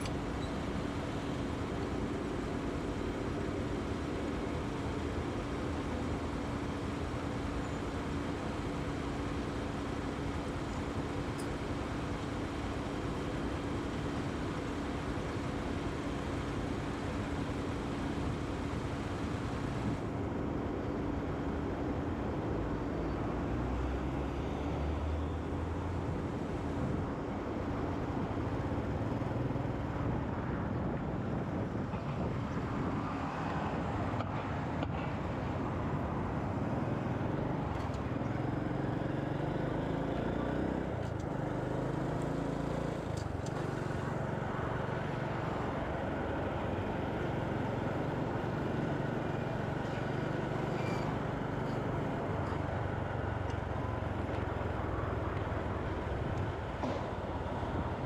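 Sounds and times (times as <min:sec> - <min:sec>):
road noise: 0:00.0 - 0:58.0
surrounding traffic: 0:00.0 - 0:58.0.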